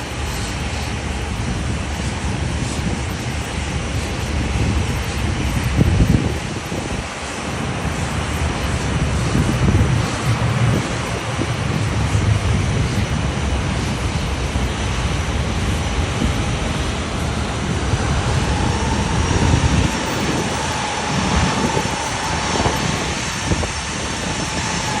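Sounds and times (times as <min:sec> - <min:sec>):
jet airliner passing: 0:00.0 - 0:25.0
jet engine whine: 0:00.0 - 0:25.0.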